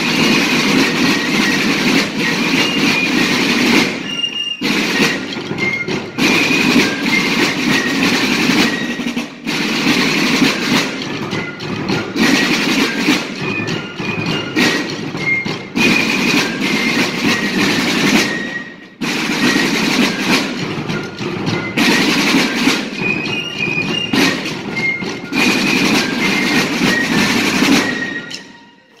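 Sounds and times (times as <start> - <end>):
snare drums rolling: 0.0 - 29.0.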